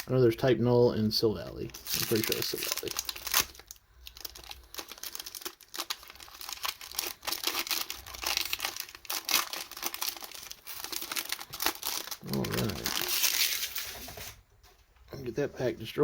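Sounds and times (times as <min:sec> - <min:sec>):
foil wrapper crinkling and tearing: 0:00.0 - 0:00.2, 0:01.4 - 0:14.4.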